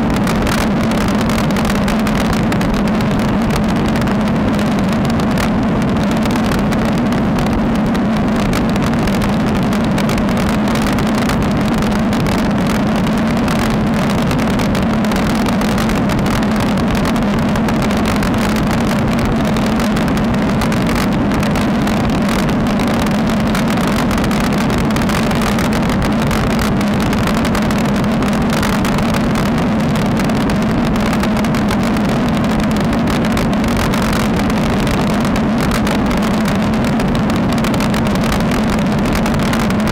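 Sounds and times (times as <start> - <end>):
road rumble: 0.0 - 39.9
wind rush: 0.0 - 39.9.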